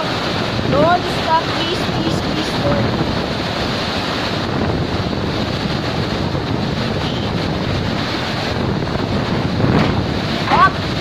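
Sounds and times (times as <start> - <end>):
driving rain: 0.0 - 11.0
strong wind gusts: 0.0 - 11.0
wind buffeting microphone: 0.0 - 11.0.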